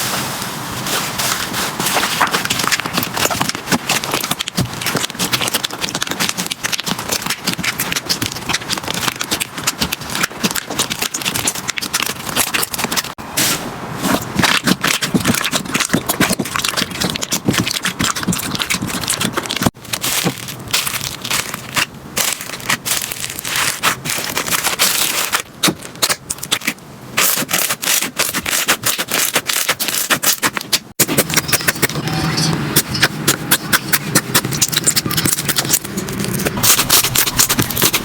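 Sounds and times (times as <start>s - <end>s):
slime crackling and popping: 1.2s - 13.2s, 14.1s - 31.9s, 33.0s - 38.0s.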